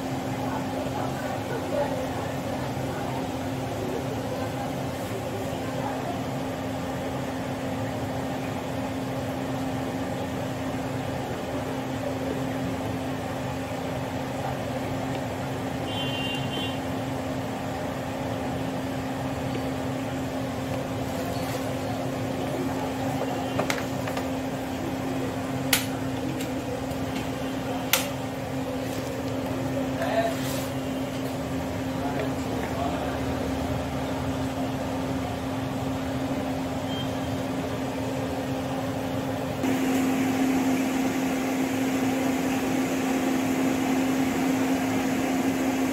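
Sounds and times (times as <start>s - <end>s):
refrigerator compressor humming: 0.0s - 45.9s.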